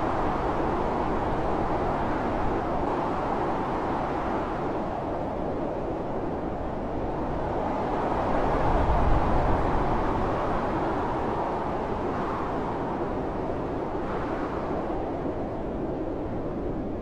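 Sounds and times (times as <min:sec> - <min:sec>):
strong wind blowing: 0:00.0 - 0:17.0.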